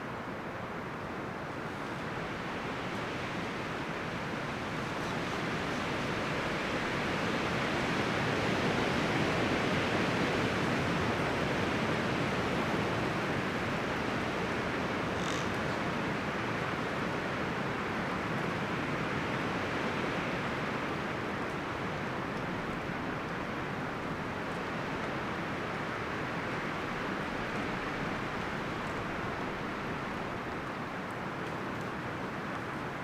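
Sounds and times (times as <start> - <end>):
wind rustling forest trees: 0.0 - 33.0.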